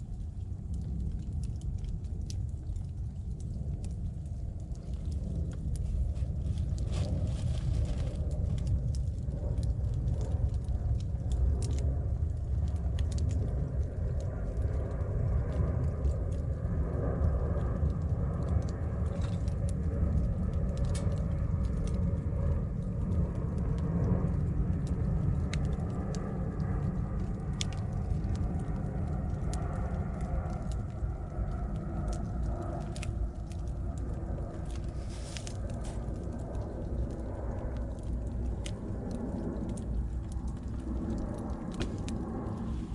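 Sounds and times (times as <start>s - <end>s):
burning wood crackling: 0.0s - 42.9s
fire low rumble: 0.0s - 42.9s.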